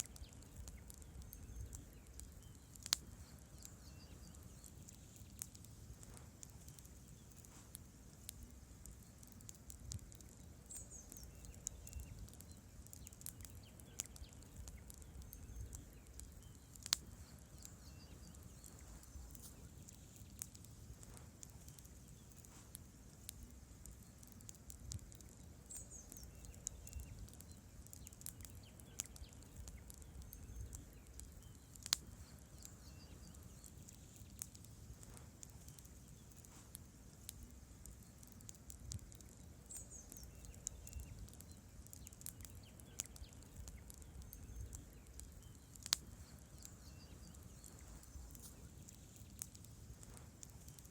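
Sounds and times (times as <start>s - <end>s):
campfire logs crackling: 0.0s - 50.9s
low rumble of flames: 0.0s - 50.9s.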